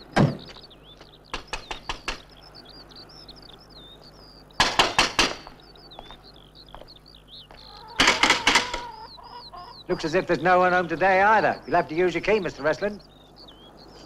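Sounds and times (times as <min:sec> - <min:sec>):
small bird twittering: 0:00.0 - 0:14.0.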